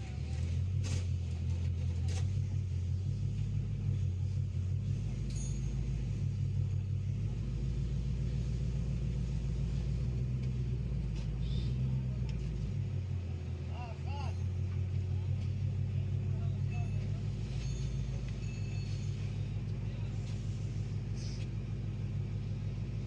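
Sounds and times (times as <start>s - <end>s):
car engine idling with misfire: 0.0s - 23.0s.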